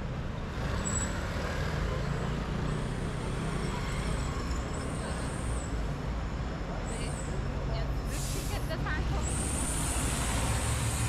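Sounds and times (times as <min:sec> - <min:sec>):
large vehicle engine rumbling: 0:00.0 - 0:11.0.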